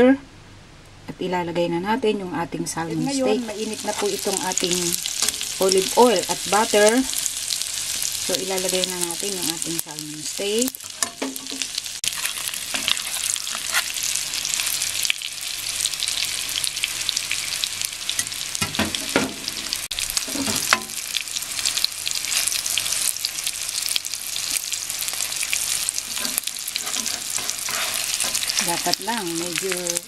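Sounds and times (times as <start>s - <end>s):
fish sizzling in a pan: 3.3s - 30.0s.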